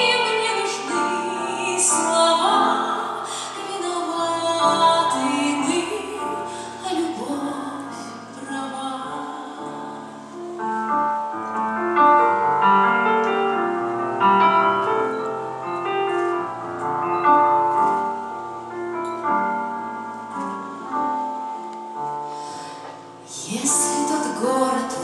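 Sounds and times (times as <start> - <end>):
slow piano ballad music: 0.0 - 25.0.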